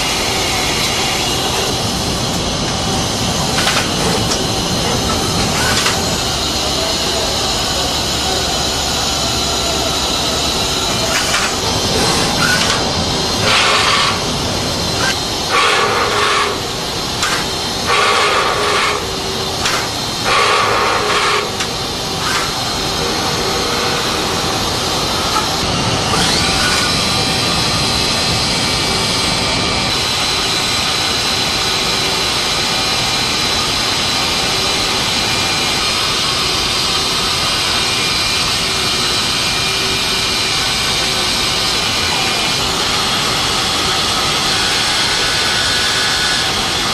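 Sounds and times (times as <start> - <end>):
machine noise: 0.0 - 46.9
spindle whine: 0.0 - 46.9.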